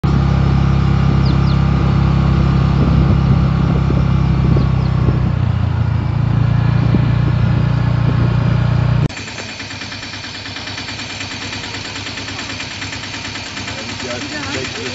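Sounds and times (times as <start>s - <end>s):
vehicle engine droning: 0.0s - 14.9s.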